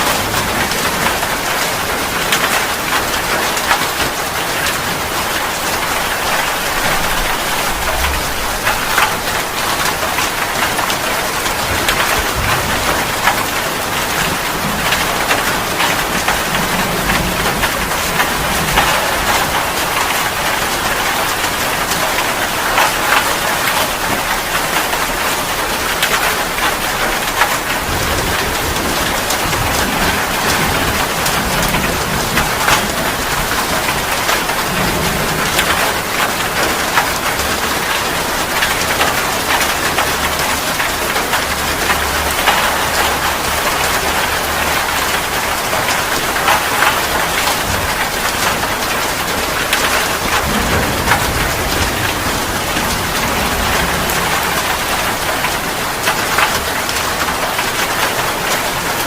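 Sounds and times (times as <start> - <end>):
low thunder rumbling: 0.0 - 58.9
dense rain pattering: 0.0 - 59.0.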